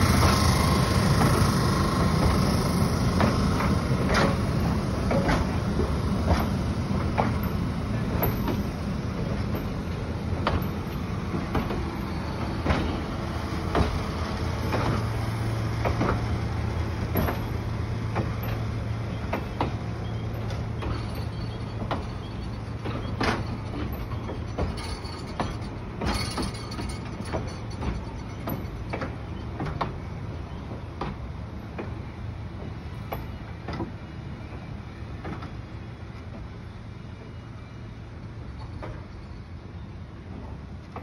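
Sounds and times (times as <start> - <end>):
train wheels clacking over rail joints: 0.0 - 37.4, 38.4 - 39.4.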